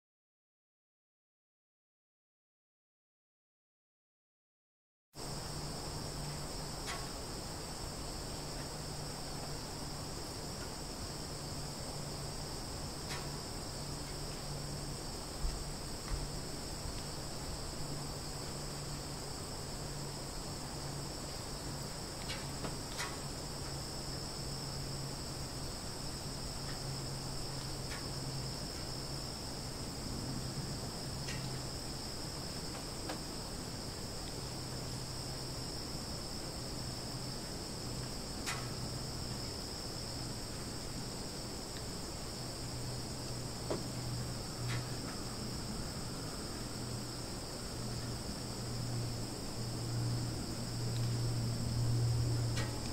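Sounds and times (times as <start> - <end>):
crickets trilling: 5.2 - 52.9
low even hum: 5.2 - 52.9.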